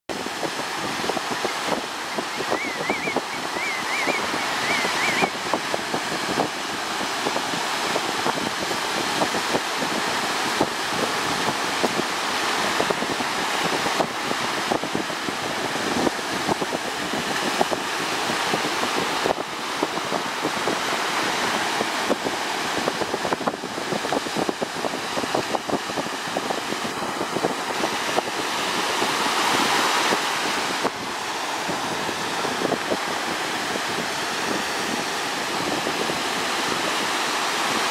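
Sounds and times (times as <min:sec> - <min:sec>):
wind buffeting microphone: 0:00.1 - 0:37.9.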